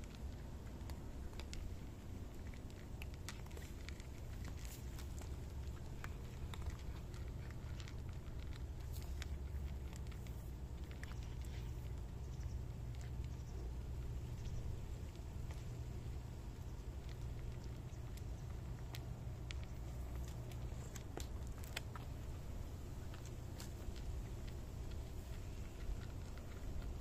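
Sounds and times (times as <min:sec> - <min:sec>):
cats crunching dry kibble: 0:00.0 - 0:27.0
steady low rumble: 0:00.0 - 0:27.0.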